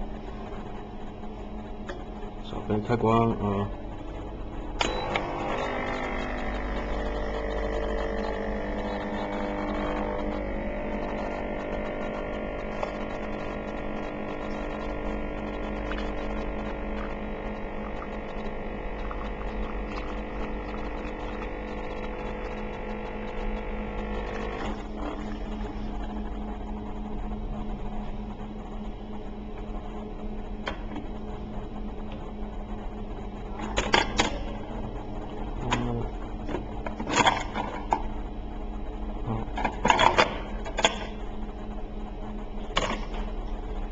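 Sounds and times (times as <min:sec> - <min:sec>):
coffee machine pump humming: 0:00.0 - 0:43.9.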